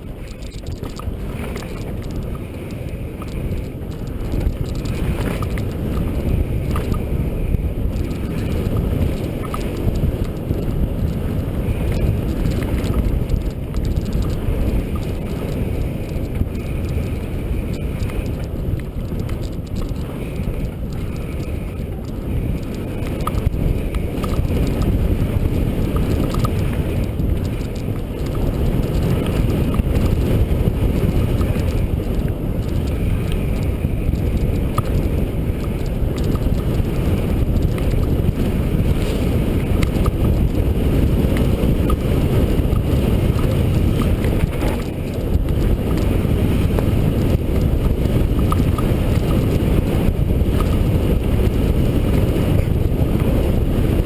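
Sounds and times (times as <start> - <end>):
bike tyres rumbling on dirt: 0.0 - 54.0
small ticks and rattles: 0.0 - 54.0
wind buffeting microphone: 0.0 - 54.0.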